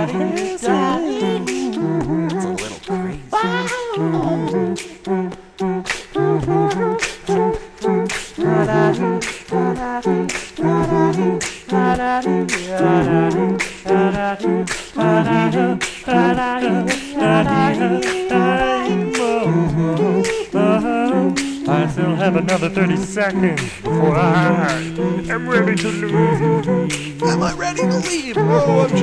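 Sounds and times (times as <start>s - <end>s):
beatboxed percussion: 0.0s - 29.0s
humming and sung harmonies: 0.0s - 29.0s.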